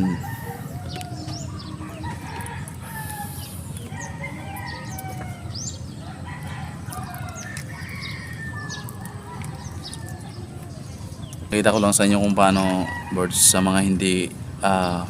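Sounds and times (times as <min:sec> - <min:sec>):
steady low rumble: 0:00.0 - 0:12.6
chickens clucking and crowing: 0:00.0 - 0:15.0.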